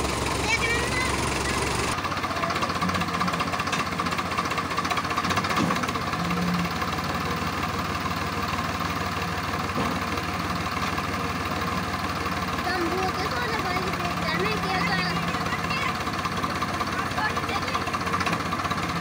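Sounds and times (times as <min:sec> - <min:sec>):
diesel tractor engines running: 0:00.0 - 0:19.0.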